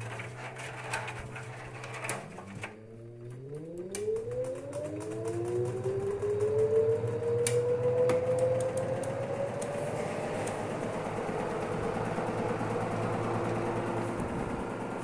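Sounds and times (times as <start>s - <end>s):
washing machine drum turning: 0.0s - 15.0s.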